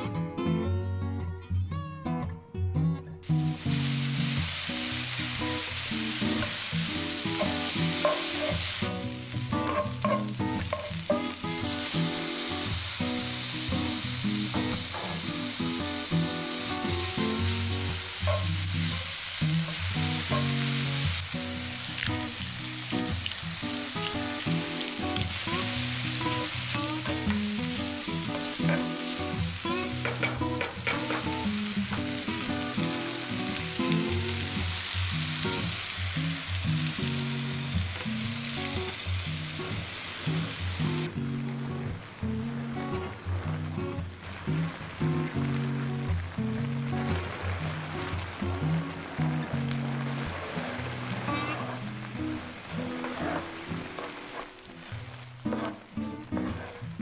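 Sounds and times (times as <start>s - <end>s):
food sizzling in oil: 3.2s - 57.0s.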